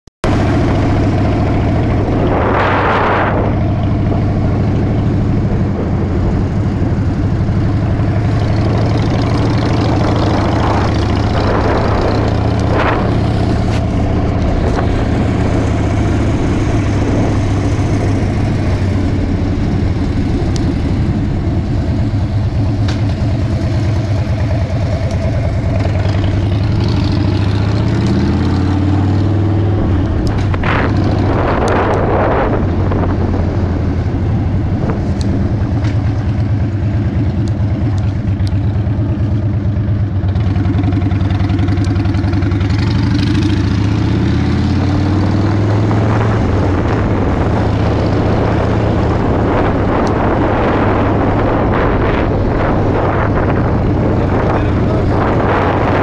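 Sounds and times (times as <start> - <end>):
motorcycle engine running: 0.2 - 56.0.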